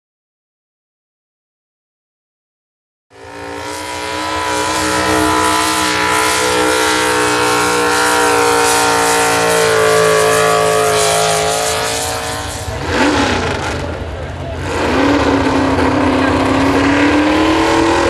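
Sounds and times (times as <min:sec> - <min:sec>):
truck engine at high revs: 0:03.1 - 0:18.0.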